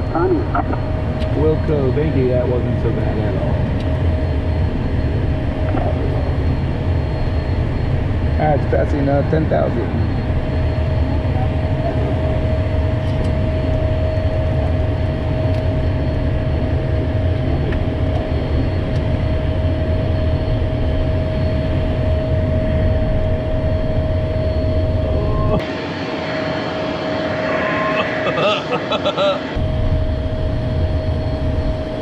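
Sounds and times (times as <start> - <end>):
jet engines droning: 0.0 - 32.0
steady whine: 0.0 - 32.0.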